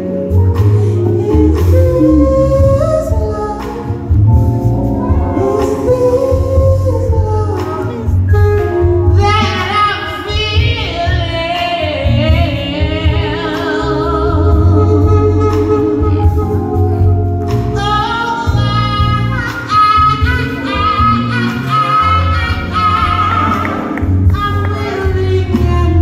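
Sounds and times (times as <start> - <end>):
woman singing into microphone: 0.0 - 4.3, 5.2 - 26.0
instrumental accompaniment: 0.0 - 26.0.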